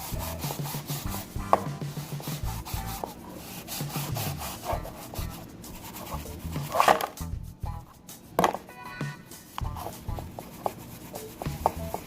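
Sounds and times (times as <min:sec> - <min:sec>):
cloth rag wiping surfaces: 0:00.0 - 0:07.1, 0:09.1 - 0:12.0.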